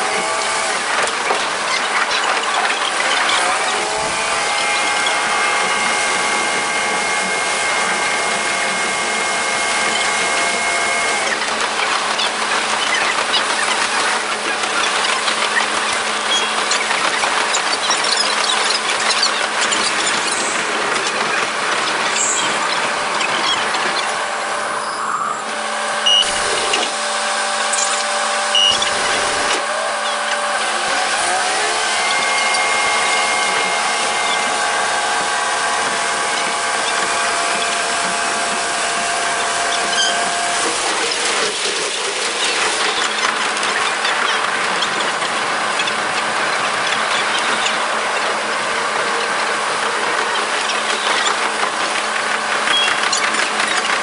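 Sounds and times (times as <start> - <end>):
train rushing running noise: 0.0 - 16.2, 19.4 - 53.7
sped-up railcar engine buzzing: 0.0 - 54.0.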